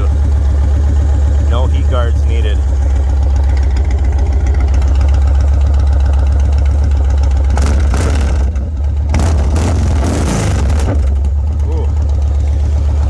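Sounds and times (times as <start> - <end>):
motorcycle engine idling: 0.0 - 10.0, 10.6 - 13.0.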